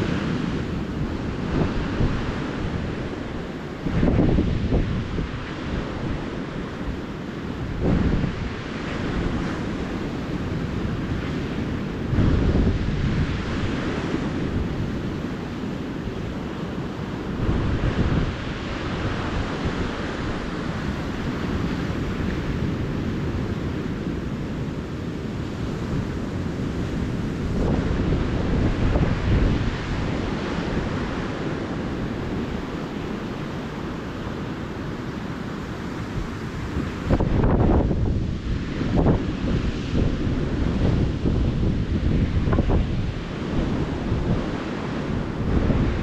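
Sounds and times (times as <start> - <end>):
ocean surf washing onto beach: 0.0 - 46.0
wind buffeting microphone: 0.0 - 46.0.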